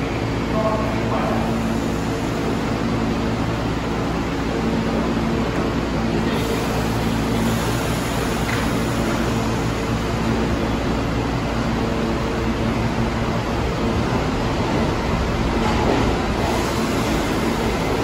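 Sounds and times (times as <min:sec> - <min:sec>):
subway train hum and tones: 0:00.0 - 0:18.0
train rumbling: 0:00.0 - 0:18.0.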